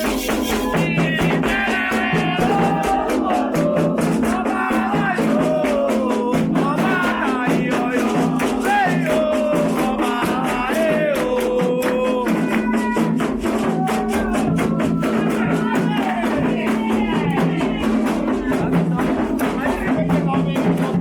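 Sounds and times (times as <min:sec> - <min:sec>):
chant singing: 0:00.0 - 0:21.0
hand drums: 0:00.0 - 0:21.0
shaken percussion: 0:00.0 - 0:21.0.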